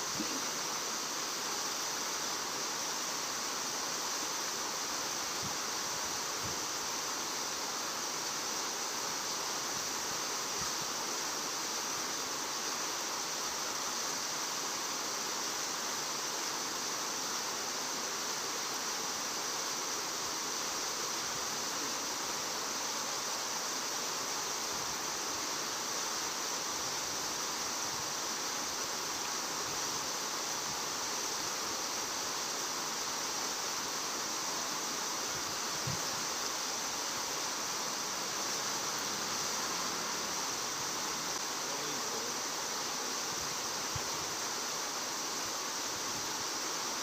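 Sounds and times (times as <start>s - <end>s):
rushing hiss: 0.0s - 47.0s.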